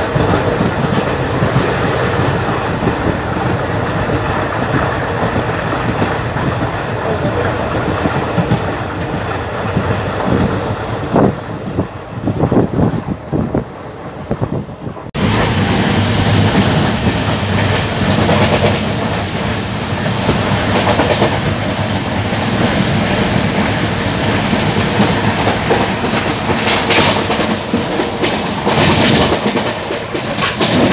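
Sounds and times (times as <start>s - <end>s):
train coaches rumbling: 0.0s - 30.9s
train wheels clattering on rails: 0.0s - 30.9s.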